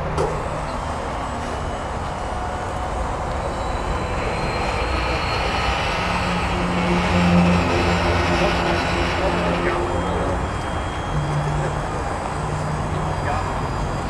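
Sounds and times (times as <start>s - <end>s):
low hum: 0.0s - 14.0s
motor running: 0.0s - 14.0s.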